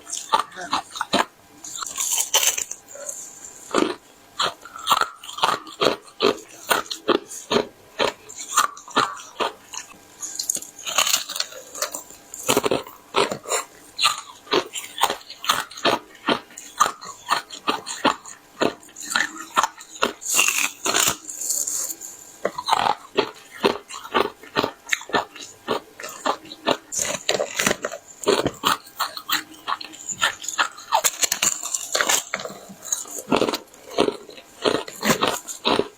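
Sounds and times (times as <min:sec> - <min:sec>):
teeth crunching ice: 0:00.0 - 0:35.9.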